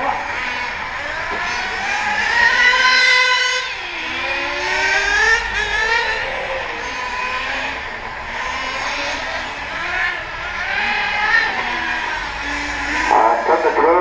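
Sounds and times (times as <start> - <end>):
rc motorcycle motors whining: 0.0 - 14.0.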